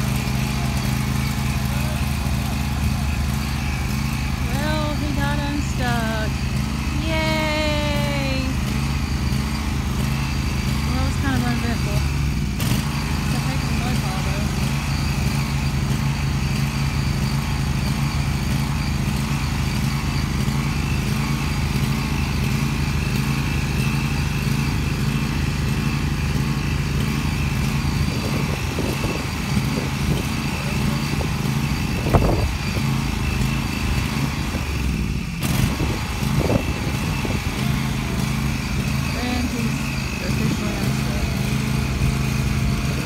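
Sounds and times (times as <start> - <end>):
mower engine running: 0.0 - 43.0.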